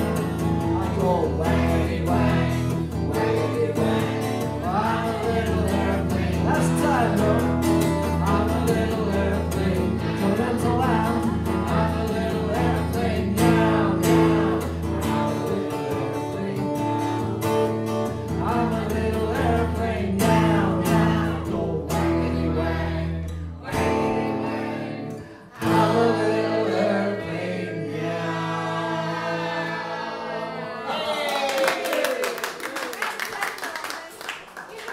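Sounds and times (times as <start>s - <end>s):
acoustic guitar strummed: 0.0s - 30.6s
group of voices singing: 0.0s - 31.2s.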